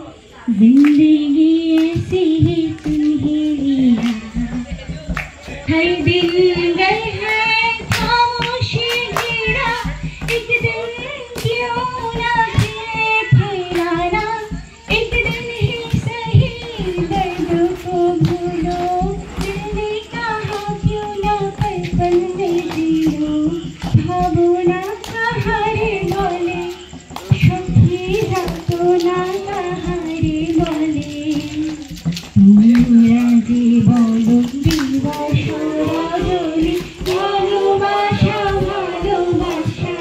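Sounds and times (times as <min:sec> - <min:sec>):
people clapping along: 0:00.5 - 0:40.0
person singing: 0:00.5 - 0:40.0.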